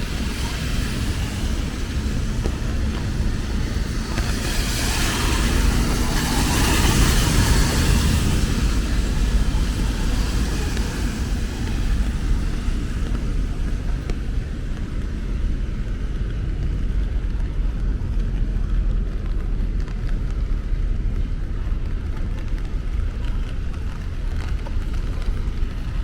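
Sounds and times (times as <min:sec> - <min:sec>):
city traffic rumble: 0:00.0 - 0:26.0
steady rain falling: 0:00.0 - 0:26.0.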